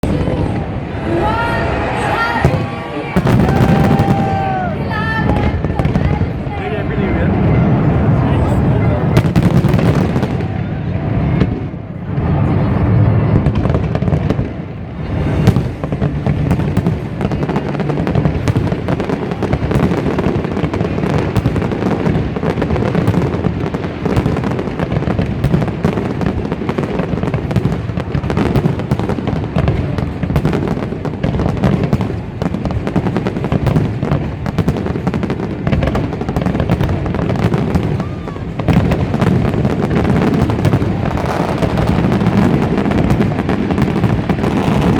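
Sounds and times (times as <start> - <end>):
fireworks bangs and crackles: 0.0 - 44.9
heavy firework boom: 0.0 - 44.9.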